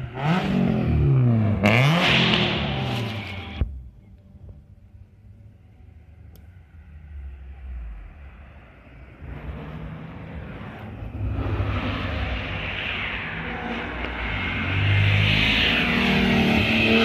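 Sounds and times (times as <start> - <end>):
rally car engine approaching: 0.0 - 17.0.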